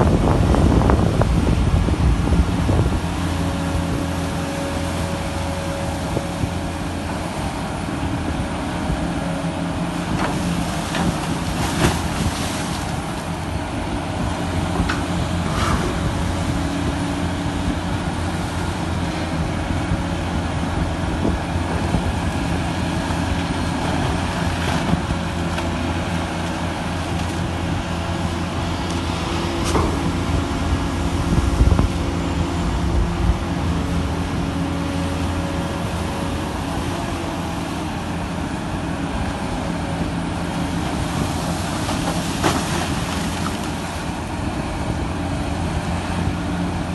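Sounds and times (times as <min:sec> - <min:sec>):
diesel machinery humming: 0:00.0 - 0:46.9.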